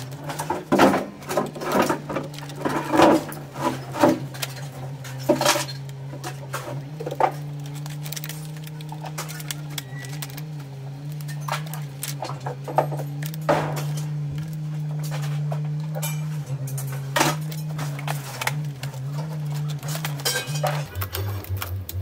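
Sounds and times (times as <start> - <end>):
plastic and metal clicks and rattles: 0.0 - 22.0.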